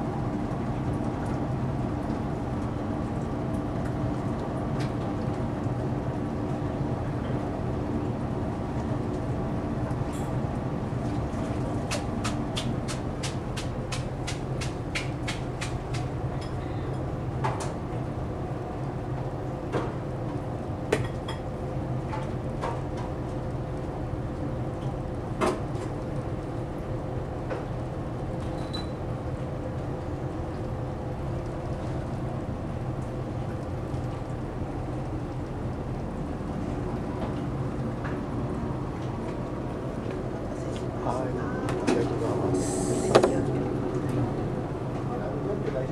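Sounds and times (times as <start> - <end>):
ship machinery hum: 0.0 - 45.9.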